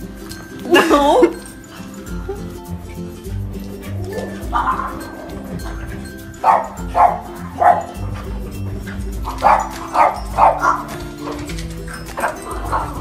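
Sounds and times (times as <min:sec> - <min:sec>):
background music with beat: 0:00.0 - 0:13.0
puppies yapping: 0:00.0 - 0:13.0.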